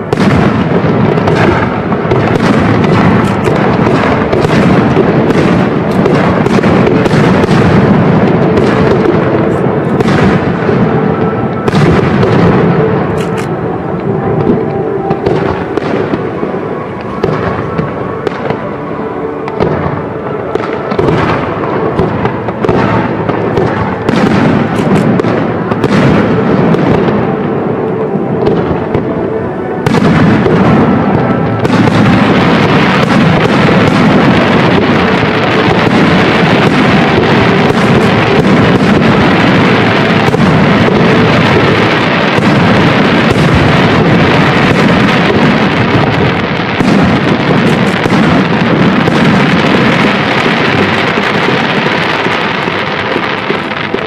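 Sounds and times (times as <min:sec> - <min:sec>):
fireworks launching and bursting: 0:00.0 - 0:54.0
music: 0:00.0 - 0:54.0.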